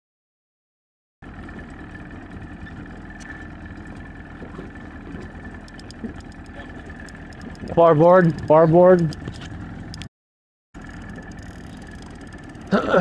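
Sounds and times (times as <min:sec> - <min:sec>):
outboard motor with whine: 0:01.2 - 0:10.1, 0:10.8 - 0:13.0.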